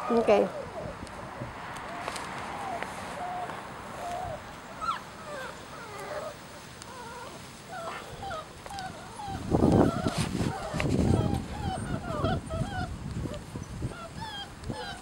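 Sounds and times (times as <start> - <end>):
puppies whimpering: 2.5 - 15.0.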